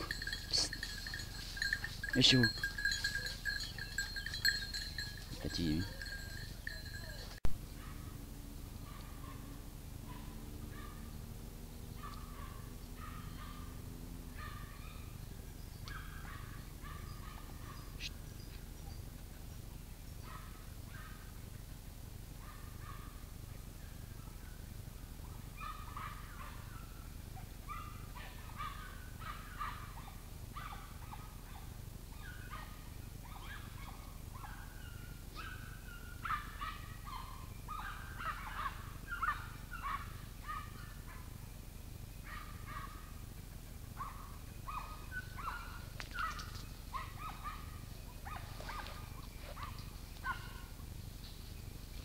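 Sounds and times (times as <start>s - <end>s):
dogs barking and baying: 0.0s - 15.2s, 15.8s - 18.1s, 25.2s - 41.5s, 42.2s - 51.0s.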